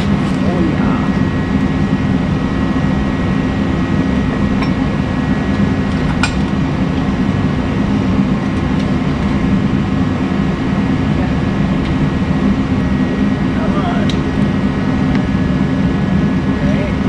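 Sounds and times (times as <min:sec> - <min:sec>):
mechanical drone with low hum: 0:00.0 - 0:17.0.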